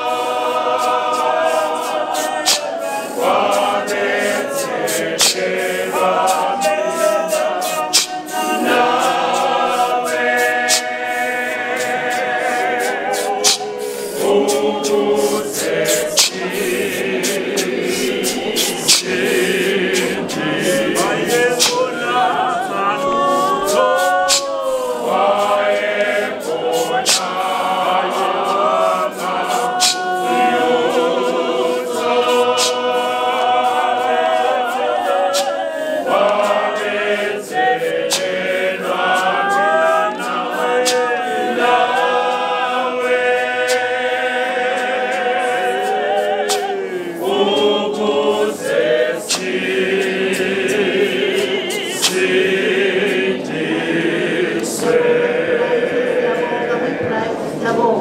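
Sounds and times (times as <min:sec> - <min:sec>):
male choir singing a hymn: 0:00.0 - 0:58.0.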